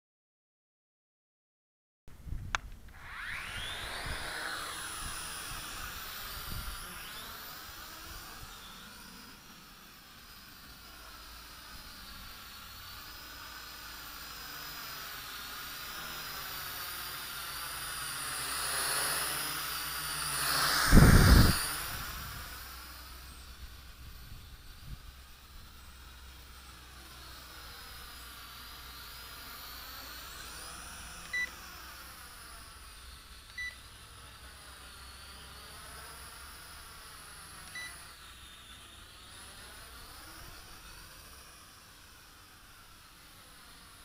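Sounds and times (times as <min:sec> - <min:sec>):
drone propellers whirring: 0:02.5 - 0:44.0.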